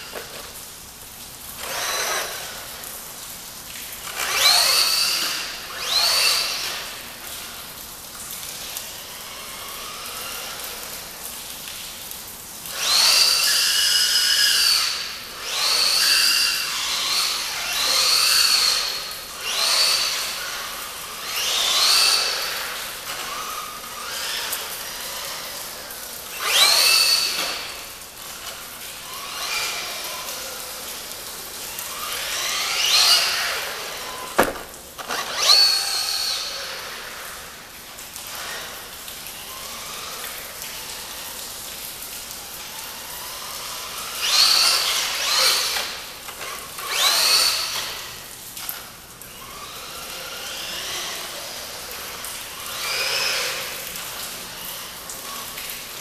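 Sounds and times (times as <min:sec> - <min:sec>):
electric motor whining: 0:01.6 - 0:02.8, 0:04.0 - 0:07.5, 0:08.6 - 0:11.2, 0:12.7 - 0:37.7, 0:42.4 - 0:56.0.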